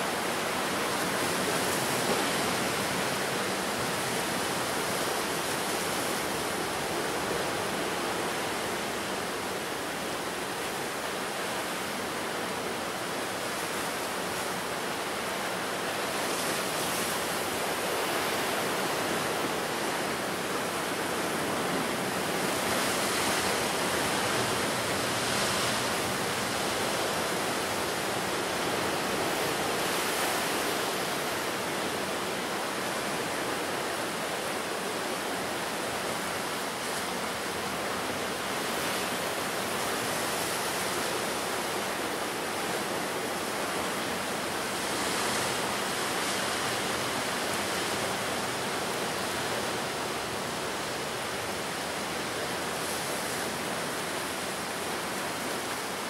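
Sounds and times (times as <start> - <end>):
ocean surf breaking: 0.0 - 56.0.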